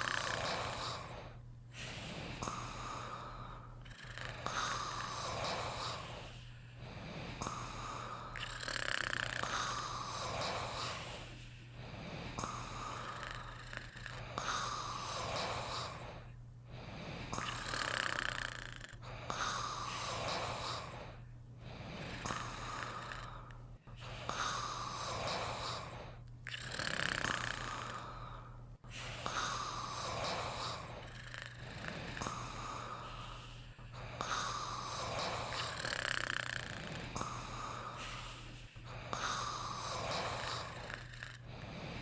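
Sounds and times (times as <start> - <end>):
snoring: 0.0 - 42.0.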